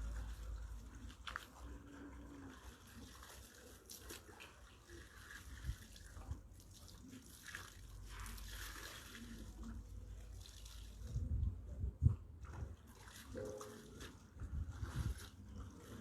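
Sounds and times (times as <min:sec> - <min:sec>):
water splashing in bucket: 0:00.0 - 0:11.4, 0:12.1 - 0:16.0.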